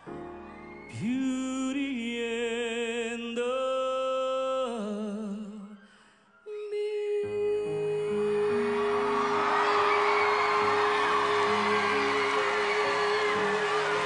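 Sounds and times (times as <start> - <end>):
man singing slow ballad: 0.9 - 5.8, 6.4 - 14.0.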